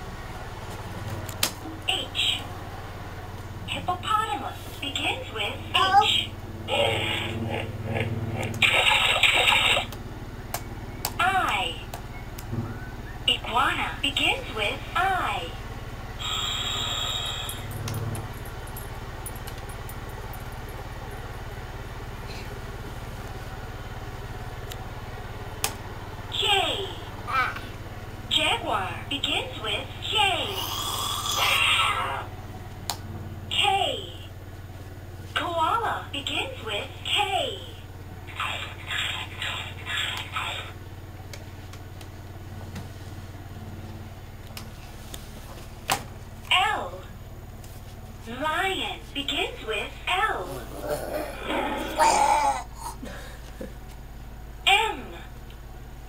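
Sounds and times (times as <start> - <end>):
low buzzing hum: 0.0 - 56.0.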